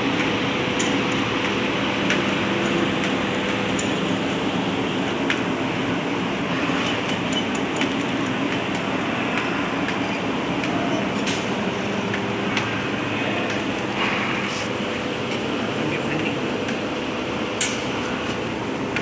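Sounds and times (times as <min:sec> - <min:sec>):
lathe cutting with machine hum: 0:00.0 - 0:19.0.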